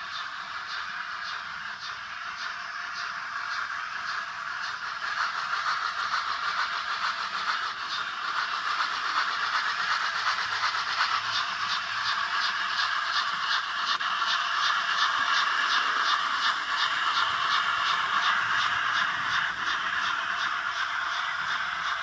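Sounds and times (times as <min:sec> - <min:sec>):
model steam locomotive chuffing: 0:00.0 - 0:22.0.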